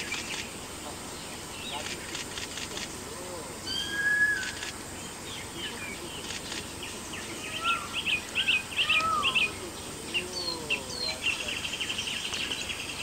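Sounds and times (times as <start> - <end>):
forest birds calling: 0.0 - 13.0
steady background hiss: 0.0 - 13.0.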